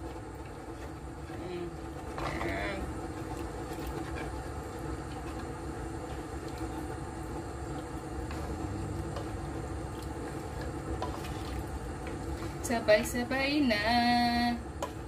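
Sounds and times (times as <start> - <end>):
cooktop humming: 0.0 - 15.0.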